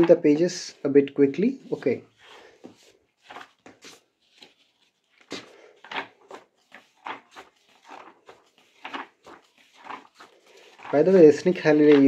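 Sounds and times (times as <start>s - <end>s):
book pages turning: 0.0s - 12.0s.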